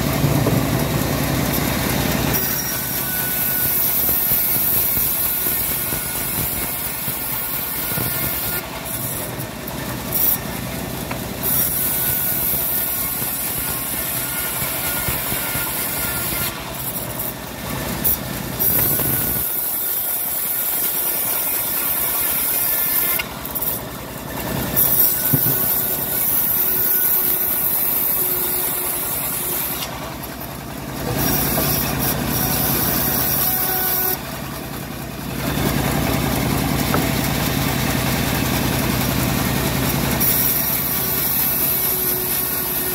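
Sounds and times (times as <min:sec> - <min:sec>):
bandsaw cutting wood: 0:00.0 - 0:42.9.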